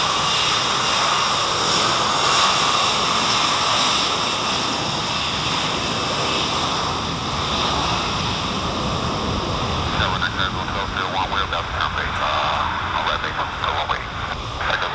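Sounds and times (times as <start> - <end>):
jet engines rushing: 0.0 - 14.9.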